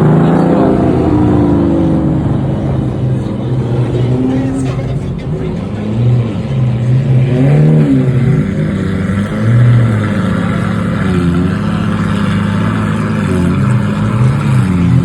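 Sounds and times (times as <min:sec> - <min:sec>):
car engine drone: 0:00.0 - 0:15.0
car engines revving: 0:00.0 - 0:15.0.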